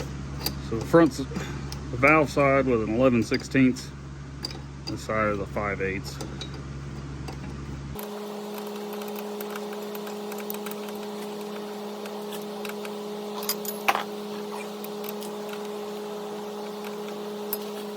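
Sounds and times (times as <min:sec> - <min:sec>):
garden tractor engine humming: 0:00.0 - 0:17.9.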